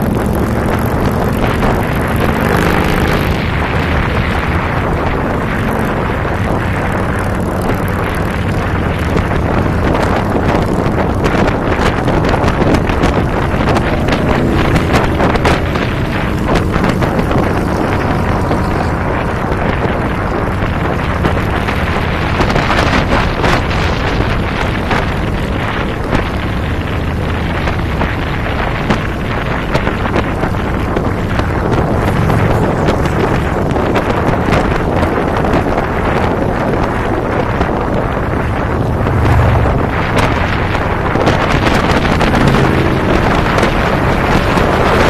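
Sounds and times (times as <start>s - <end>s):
motorcycle engine running: 0.0s - 45.0s
wind buffeting microphone: 0.0s - 45.0s.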